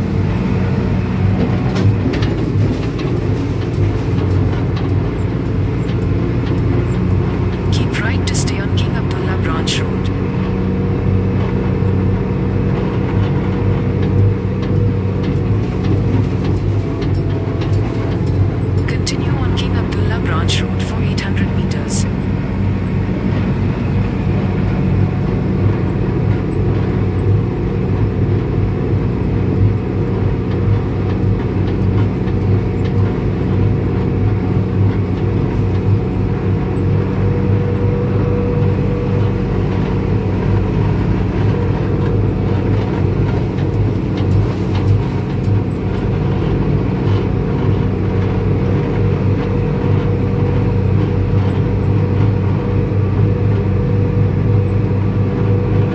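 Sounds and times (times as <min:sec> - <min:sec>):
vehicle engine droning: 0:00.0 - 0:55.9.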